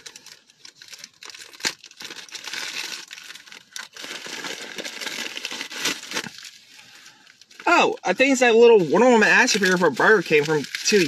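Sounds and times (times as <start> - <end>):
sharp rips and rustles: 0.0 - 7.6, 8.8 - 11.0
packaging wrap crinkling: 0.0 - 11.0.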